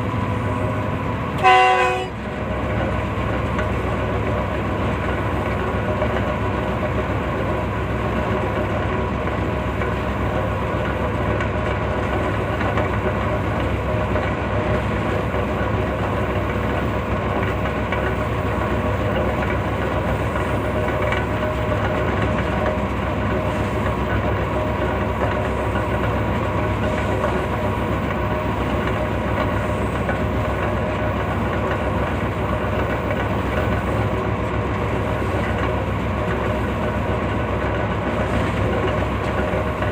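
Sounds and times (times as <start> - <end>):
passenger train rumbling: 0.0 - 39.9.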